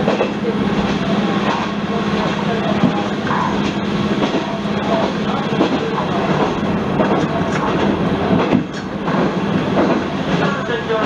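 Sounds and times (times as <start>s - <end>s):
railcar engine and rolling noise: 0.0s - 11.0s.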